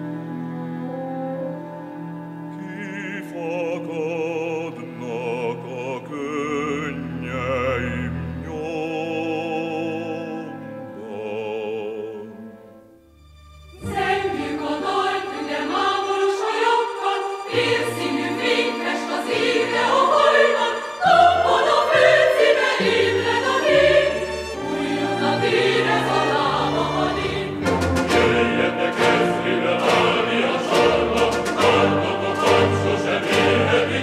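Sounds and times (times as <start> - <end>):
choir with orchestra: 0.0 - 34.0.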